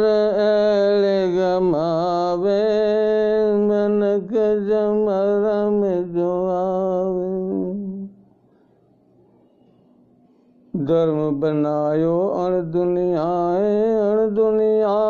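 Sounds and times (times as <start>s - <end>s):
man singing devotional song: 0.0s - 8.2s, 10.7s - 15.0s.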